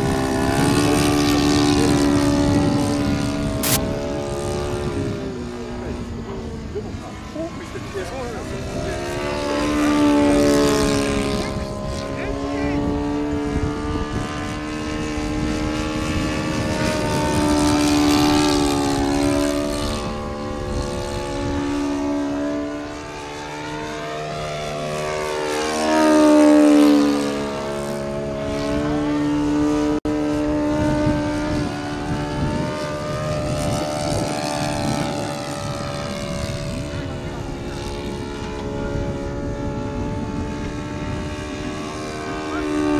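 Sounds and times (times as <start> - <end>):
model plane engine flying: 0.0 - 42.9.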